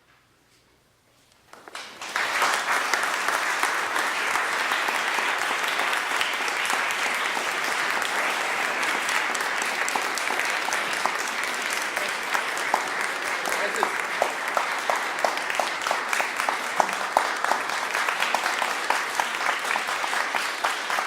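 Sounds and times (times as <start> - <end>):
concert audience applauding: 1.5 - 21.0.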